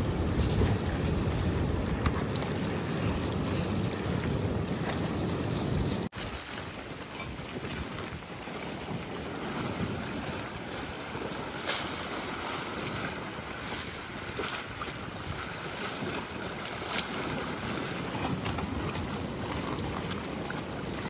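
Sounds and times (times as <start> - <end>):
sea waves washing against rocks: 0.0 - 21.0
wind buffeting microphone: 0.0 - 21.0.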